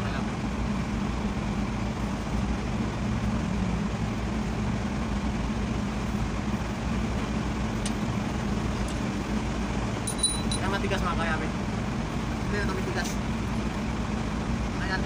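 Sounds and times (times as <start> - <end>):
low mechanical motor hum: 0.0 - 15.0.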